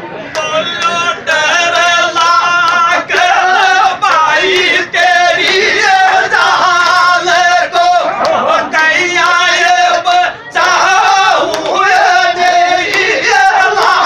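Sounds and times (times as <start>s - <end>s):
men singing folk song: 0.4s - 14.0s.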